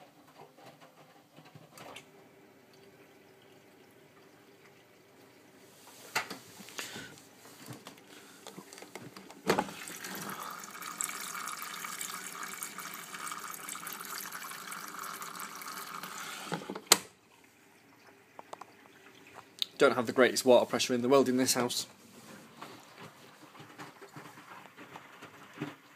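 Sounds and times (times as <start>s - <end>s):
water rushing into washing machine: 0.0s - 25.9s.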